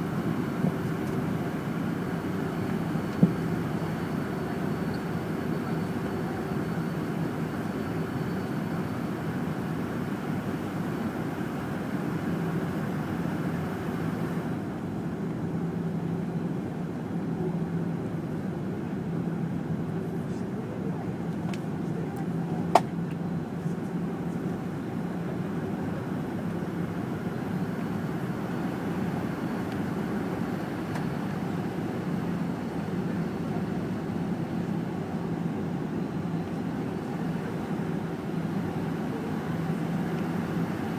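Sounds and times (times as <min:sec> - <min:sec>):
airplane cabin engine hum: 0:00.0 - 0:40.9.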